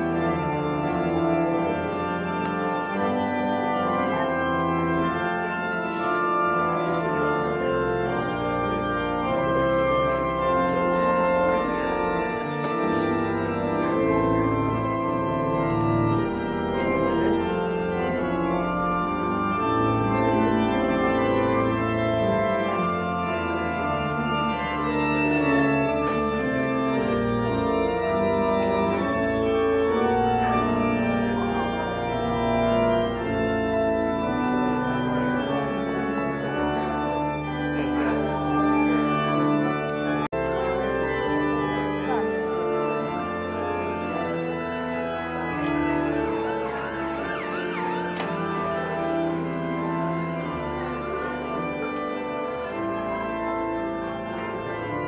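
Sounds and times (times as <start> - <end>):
organ chords: 0.0 - 55.0.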